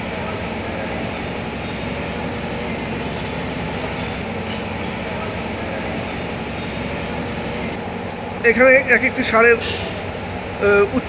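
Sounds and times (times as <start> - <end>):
ceiling fans humming: 0.0 - 11.0.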